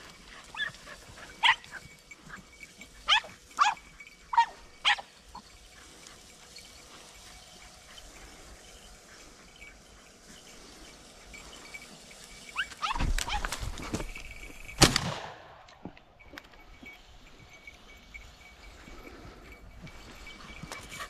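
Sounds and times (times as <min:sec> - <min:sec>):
dogs yelping and barking: 0:00.0 - 0:14.8, 0:16.2 - 0:21.0.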